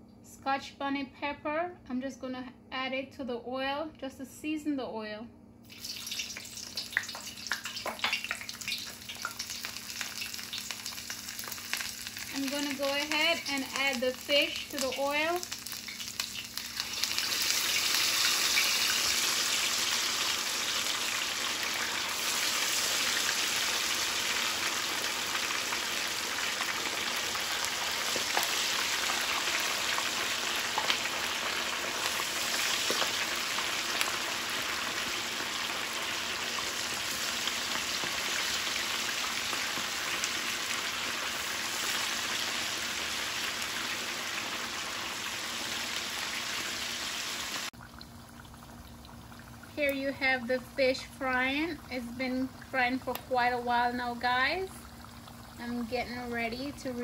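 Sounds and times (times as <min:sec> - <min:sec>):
oil popping and crackling: 0:05.7 - 0:46.9, 0:47.6 - 0:57.0
fish sizzling in hot oil: 0:05.7 - 0:57.0.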